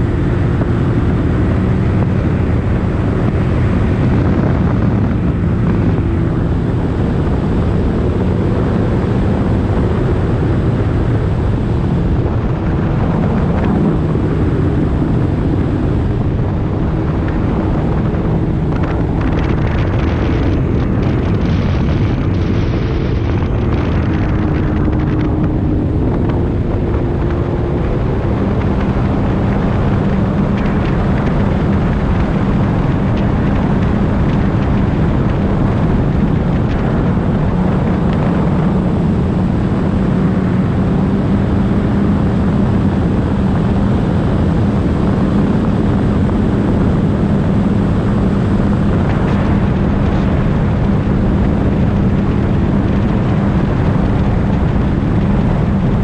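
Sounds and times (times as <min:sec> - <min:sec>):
jet ski engine droning: 0:00.0 - 0:56.0
rush of wind and water: 0:00.0 - 0:56.0.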